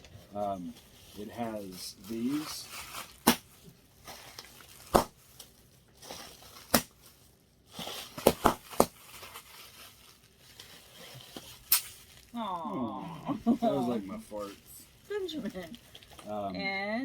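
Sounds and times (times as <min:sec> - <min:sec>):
packaging crinkling: 0:00.0 - 0:16.5.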